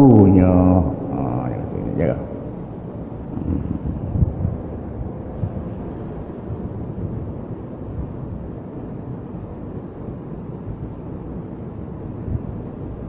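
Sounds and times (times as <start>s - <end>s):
air buffeting microphone: 0.0s - 13.0s
faint steady hum: 0.0s - 13.0s.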